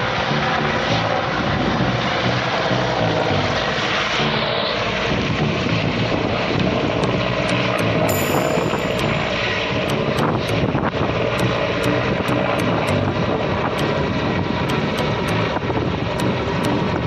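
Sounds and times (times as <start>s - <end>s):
aeroplane engine in flight: 0.0s - 17.0s.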